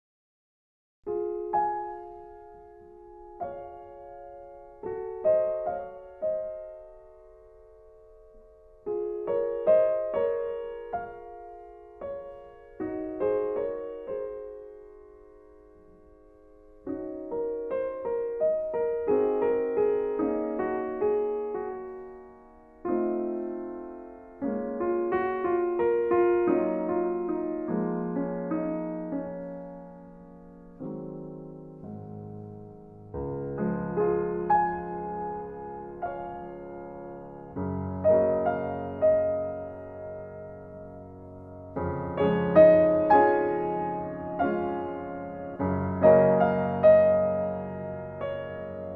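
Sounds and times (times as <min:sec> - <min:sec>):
slow piano music: 0:01.0 - 0:48.9.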